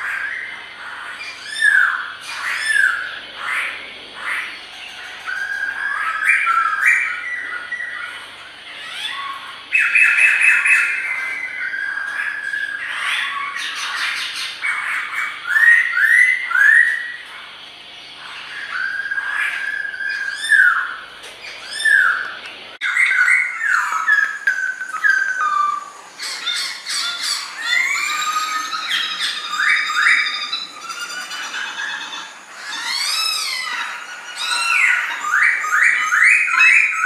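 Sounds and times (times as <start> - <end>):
bird singing whistled phrases: 0.0 - 3.2, 4.9 - 8.2, 8.8 - 17.2, 18.2 - 37.0.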